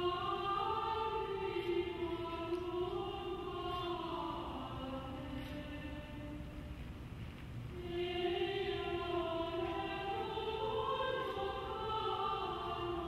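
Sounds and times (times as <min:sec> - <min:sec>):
choir singing chords: 0:00.0 - 0:06.8, 0:07.7 - 0:13.0.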